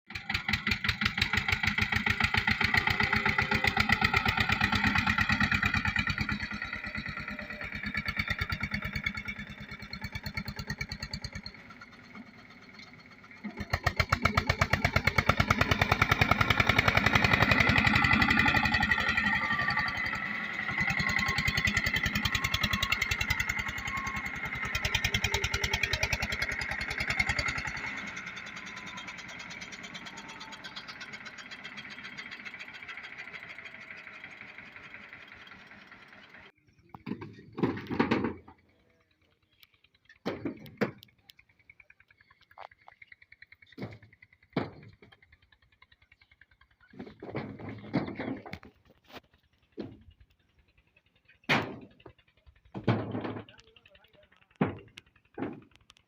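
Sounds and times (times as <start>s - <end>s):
tractor diesel engine revving: 0.1s - 56.0s.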